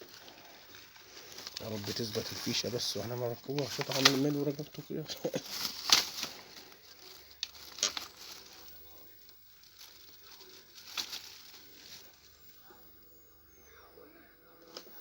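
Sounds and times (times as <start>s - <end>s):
clicks and rustles of tools: 0.0s - 12.0s.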